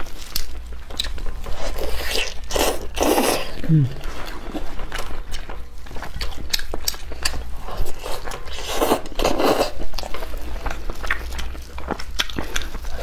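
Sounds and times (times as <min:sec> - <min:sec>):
man chewing food: 0:00.0 - 0:13.0.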